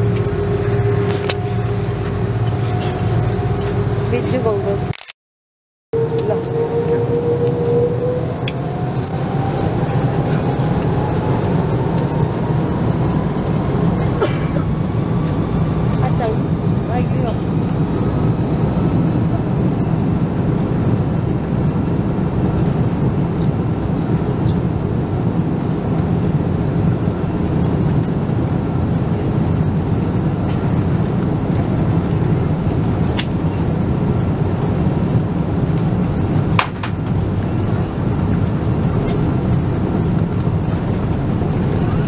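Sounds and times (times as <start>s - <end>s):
airliner cabin engine rumble: 0.0s - 4.9s, 5.9s - 42.0s.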